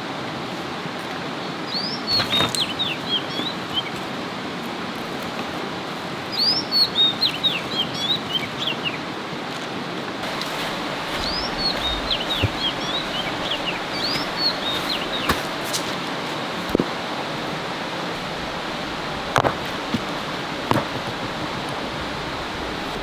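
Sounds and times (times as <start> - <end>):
rushing background hiss: 0.0 - 23.0
songbird singing: 1.0 - 9.1, 10.2 - 23.0.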